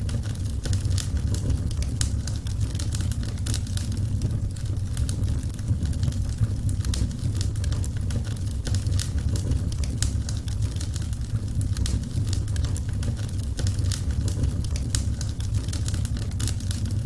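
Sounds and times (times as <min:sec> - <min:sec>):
low rumble: 0:00.0 - 0:17.0
wood fire crackling and popping: 0:00.0 - 0:17.0.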